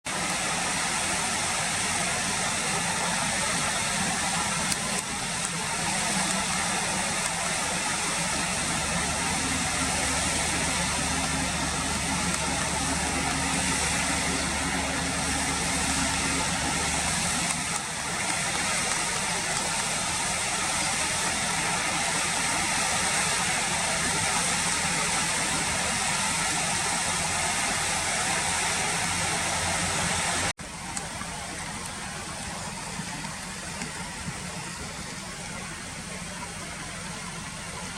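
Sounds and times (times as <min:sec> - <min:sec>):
low engine hum: 0:00.1 - 0:37.9
river water rushing: 0:00.1 - 0:37.9.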